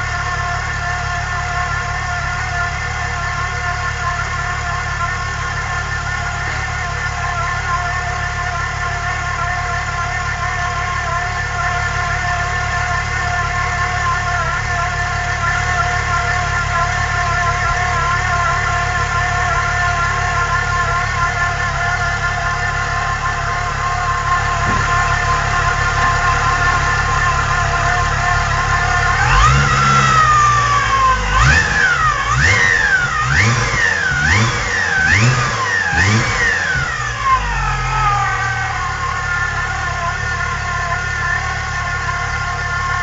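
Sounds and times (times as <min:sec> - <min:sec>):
car engine idling with whine: 0:00.0 - 0:43.0.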